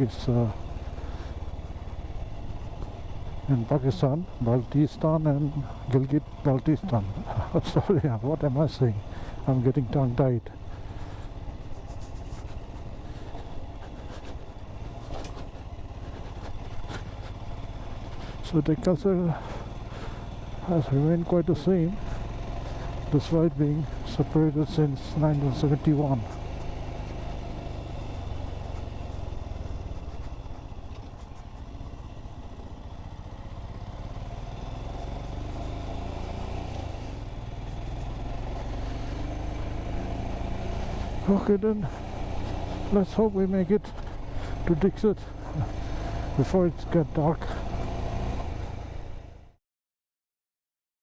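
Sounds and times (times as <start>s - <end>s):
motorcycle engine rumbling: 0.0s - 49.5s
road noise: 0.0s - 49.6s.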